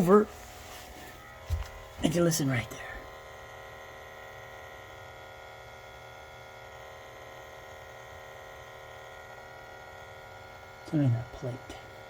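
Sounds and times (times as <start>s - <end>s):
vacuum pump buzzing: 0.0s - 12.0s.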